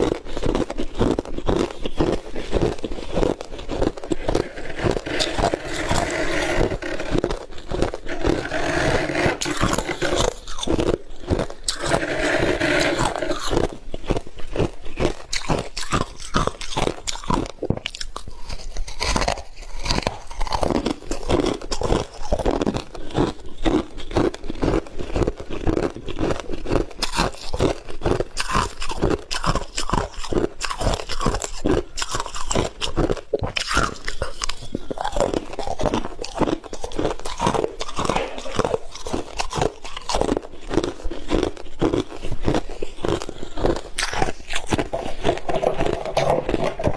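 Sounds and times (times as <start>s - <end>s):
chewing crunchy freezer frost: 0.0s - 46.9s.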